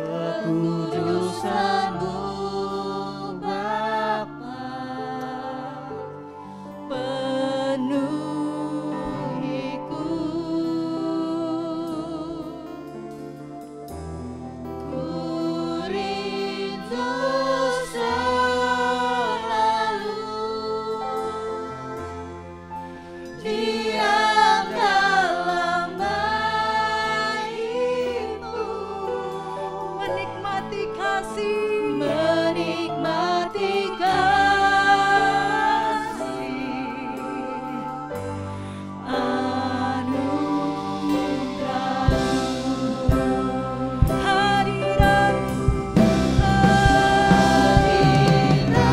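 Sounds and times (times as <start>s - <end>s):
worship song with singers: 0.0s - 48.9s.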